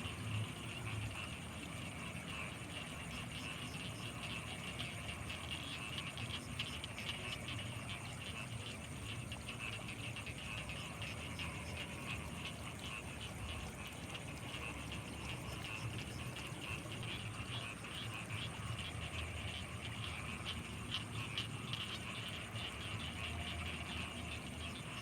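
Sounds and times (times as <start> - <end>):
frogs calling: 0.0 - 25.0.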